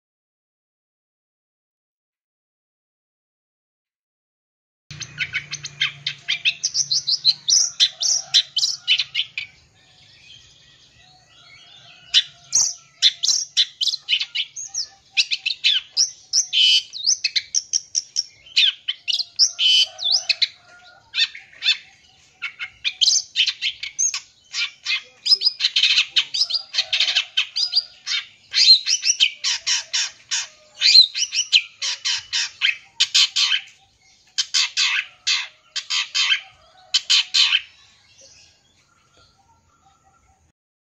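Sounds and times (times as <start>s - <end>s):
bird singing chattering song: 4.9s - 40.5s.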